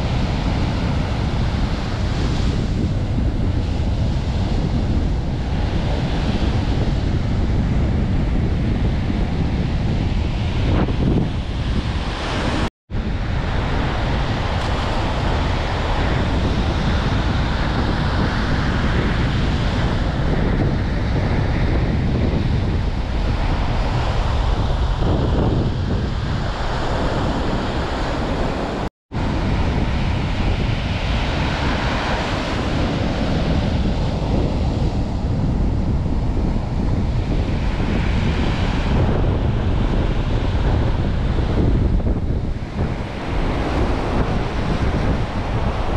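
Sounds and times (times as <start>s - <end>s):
surf breaking on shore: 0.0s - 45.9s
wind buffeting microphone: 0.0s - 45.9s.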